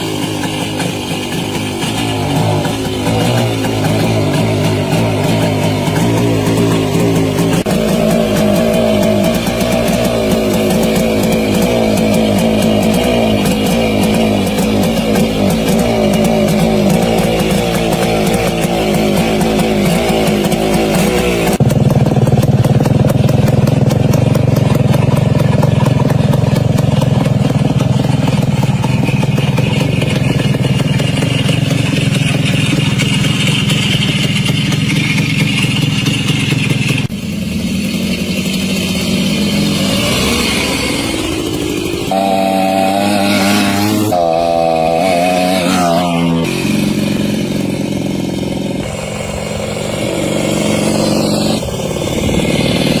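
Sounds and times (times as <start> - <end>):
two-stroke engine running: 0.0 - 53.0.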